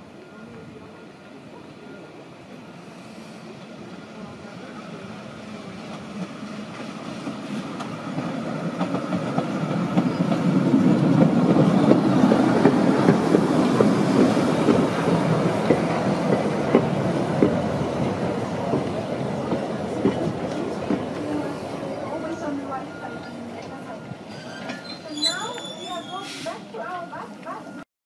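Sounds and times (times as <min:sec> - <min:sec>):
tram rolling past: 0:00.0 - 0:27.8.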